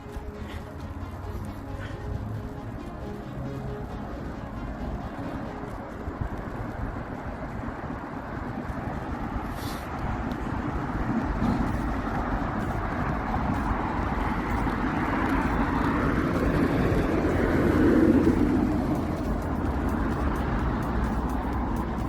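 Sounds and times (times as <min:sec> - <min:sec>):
motor vehicle passing: 0:00.0 - 0:22.0
rushing traffic noise: 0:00.0 - 0:22.0.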